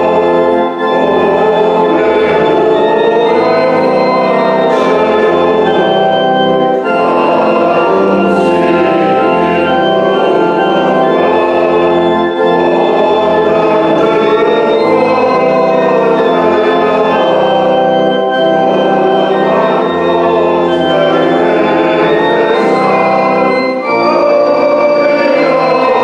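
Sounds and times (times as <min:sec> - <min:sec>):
organ playing hymn chords: 0:00.0 - 0:26.0.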